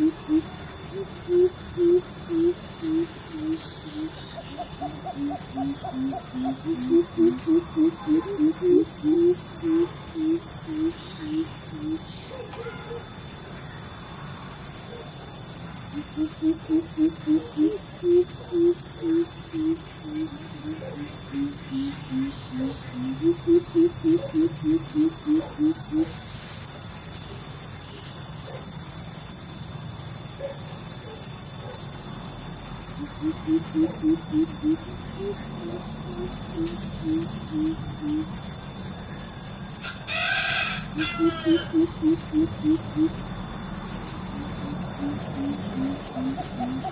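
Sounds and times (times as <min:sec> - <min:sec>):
high-pitched whine: 0:00.0 - 0:46.9.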